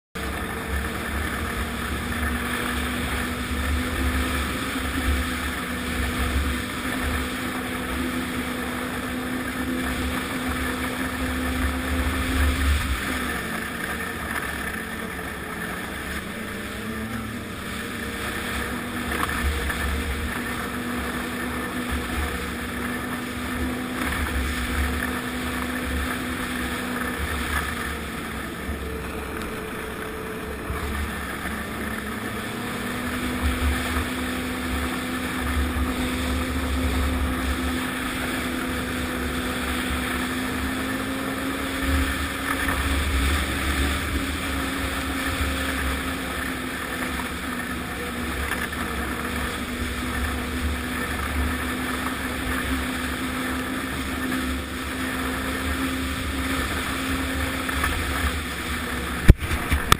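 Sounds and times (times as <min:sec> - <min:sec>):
snowmobile engine: 0:00.1 - 0:59.9.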